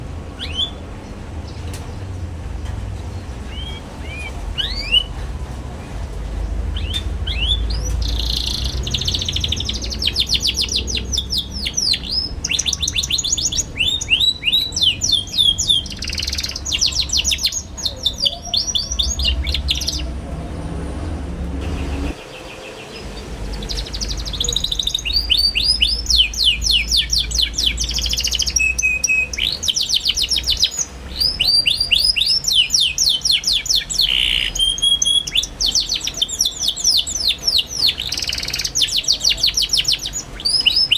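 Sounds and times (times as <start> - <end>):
canary twittering: 0.4 - 0.8, 3.0 - 40.9.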